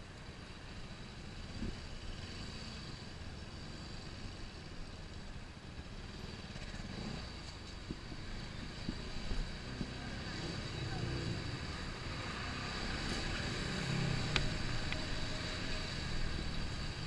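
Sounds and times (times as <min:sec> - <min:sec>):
road noise: 0:00.0 - 0:17.0
motorcycle engine rumbling: 0:00.2 - 0:17.0.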